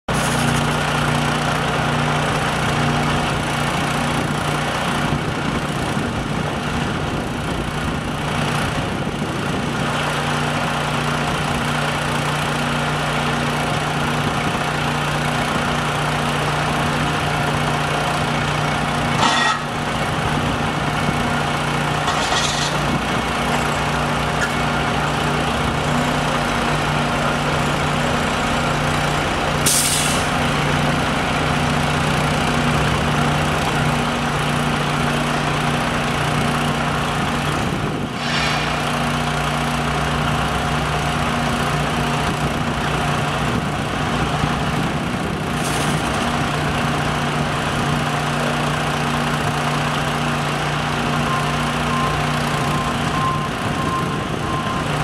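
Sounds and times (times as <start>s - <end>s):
engine running steadily: 0.1s - 55.0s.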